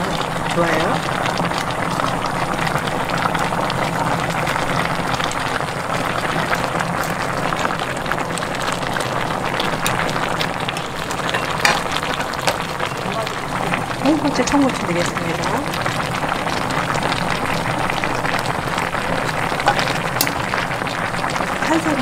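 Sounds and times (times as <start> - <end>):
sauce bubbling and hissing: 0.0 - 22.0.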